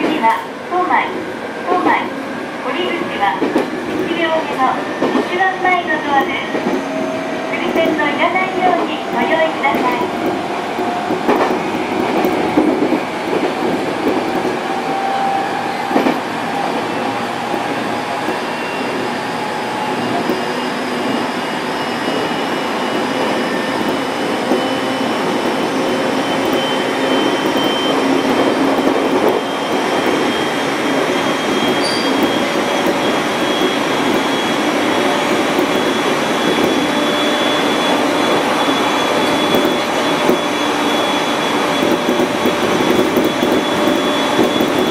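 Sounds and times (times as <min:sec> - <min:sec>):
electric train wheels rumbling: 0:00.0 - 0:44.9.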